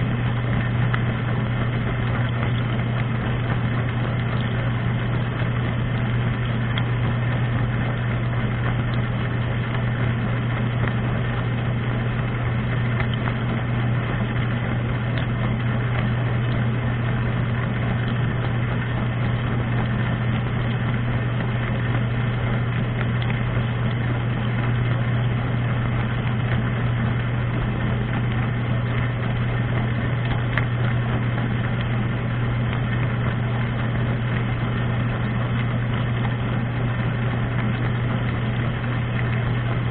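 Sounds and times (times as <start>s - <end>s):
dishwasher pump motor hum: 0.0s - 39.9s
water rushing: 0.0s - 39.9s.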